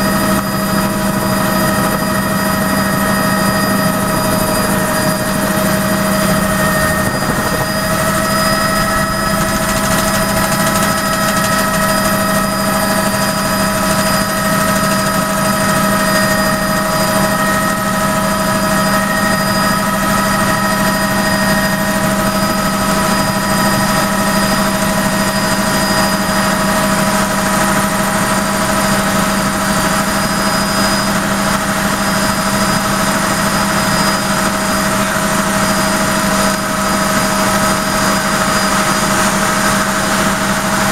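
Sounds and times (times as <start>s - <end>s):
helicopter rotor and engine: 0.0s - 40.9s
whine of held tones: 0.0s - 40.9s.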